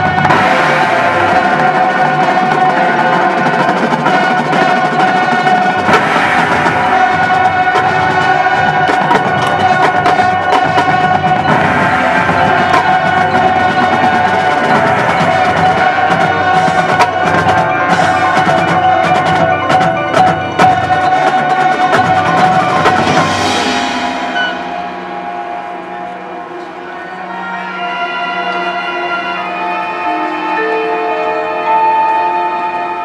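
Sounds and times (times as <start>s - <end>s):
percussion rapid strikes: 0.0s - 27.5s
marching band playing: 0.0s - 33.0s.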